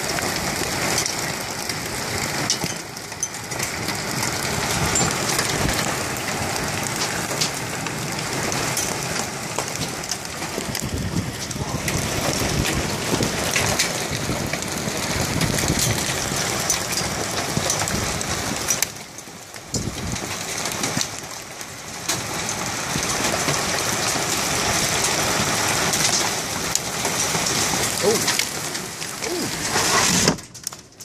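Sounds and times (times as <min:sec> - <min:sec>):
hail and rain falling hard: 0:00.0 - 0:31.0.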